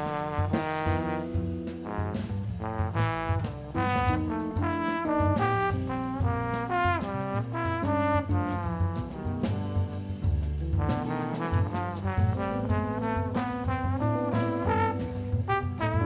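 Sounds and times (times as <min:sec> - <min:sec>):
backing track with bass: 0:00.0 - 0:16.0
horn melody: 0:00.0 - 0:16.0.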